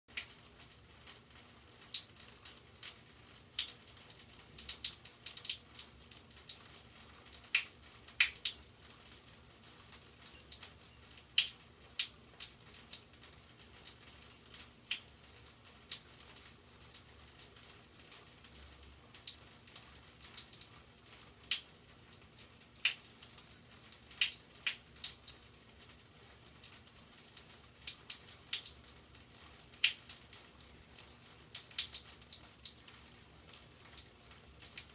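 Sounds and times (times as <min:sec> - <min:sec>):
water dripping into a sink: 0:00.1 - 0:34.9.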